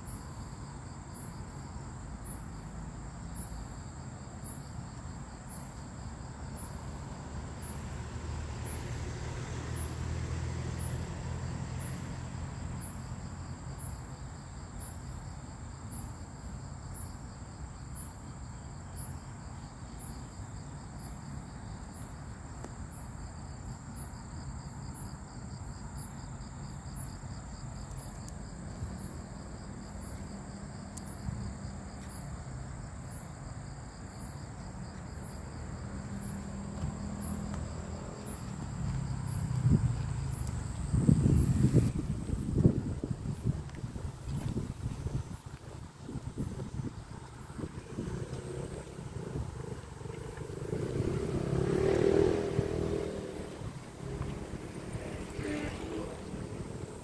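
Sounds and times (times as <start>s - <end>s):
crickets chirping: 0.0s - 57.0s
high-pitched insect trill: 0.0s - 57.0s
distant traffic rumble: 0.9s - 17.9s, 19.4s - 57.0s.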